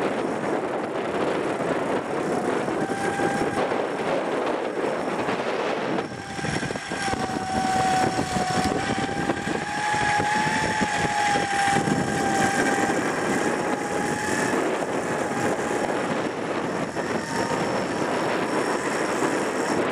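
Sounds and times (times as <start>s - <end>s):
off-road vehicle engine under load: 0.0s - 19.9s.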